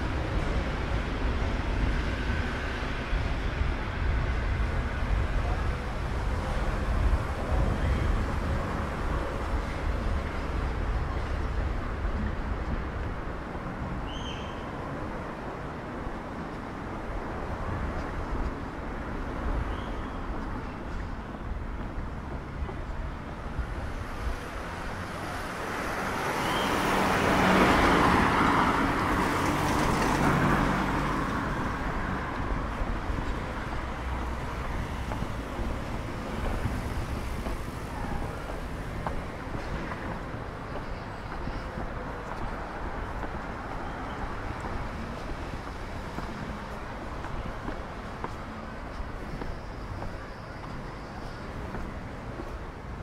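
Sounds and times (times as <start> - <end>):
street traffic: 0.0 - 53.0.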